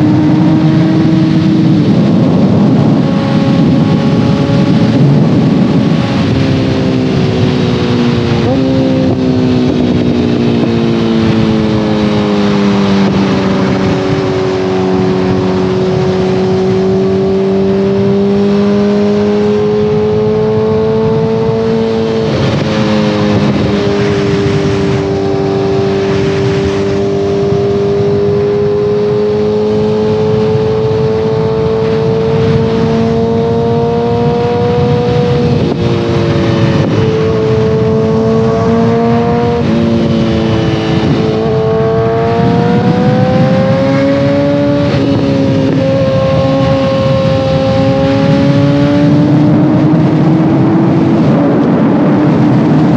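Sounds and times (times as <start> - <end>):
motorcycle engine revving: 0.0 - 52.9
wind rush: 0.0 - 52.9.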